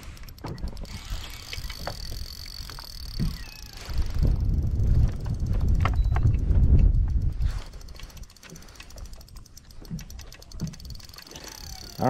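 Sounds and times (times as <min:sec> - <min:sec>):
fishing reel clicking: 0:00.0 - 0:12.0
low wind rumble: 0:00.6 - 0:12.0.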